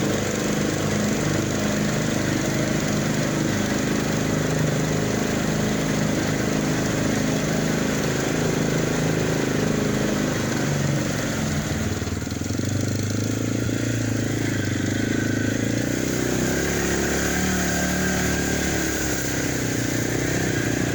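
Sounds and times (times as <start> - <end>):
off-road vehicle engine running: 0.0 - 20.9.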